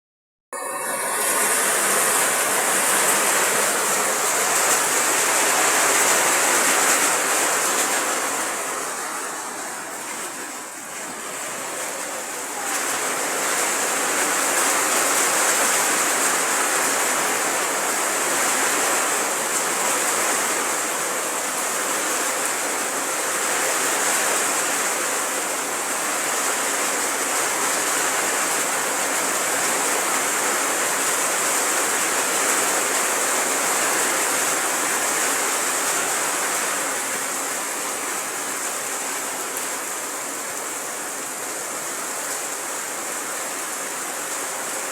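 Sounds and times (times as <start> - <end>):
heavy rain pouring: 0.5 - 44.9.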